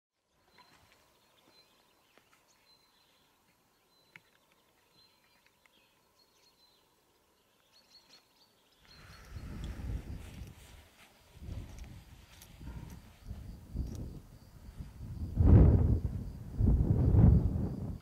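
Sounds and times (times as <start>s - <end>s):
small birds chirping: 0.2s - 15.3s.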